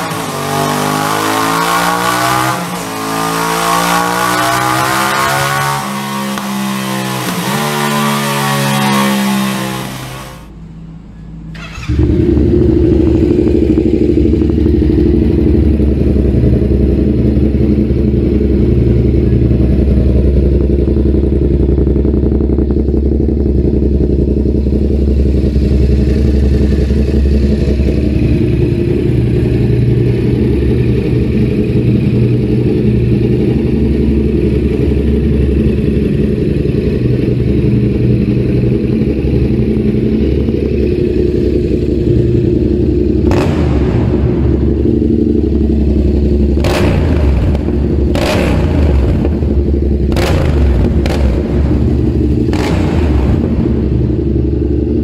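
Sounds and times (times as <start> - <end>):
motorcycle engine idling: 10.5 - 55.0.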